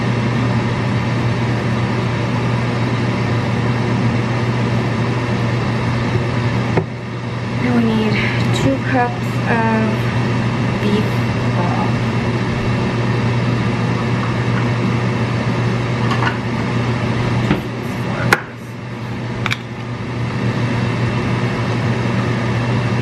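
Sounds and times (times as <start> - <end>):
electric fan humming: 0.0 - 23.0.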